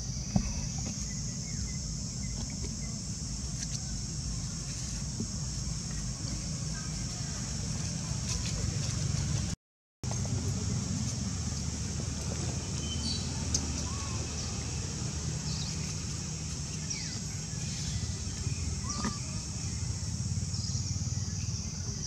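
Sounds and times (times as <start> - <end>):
steady high hiss: 0.0 - 9.4, 10.3 - 22.0.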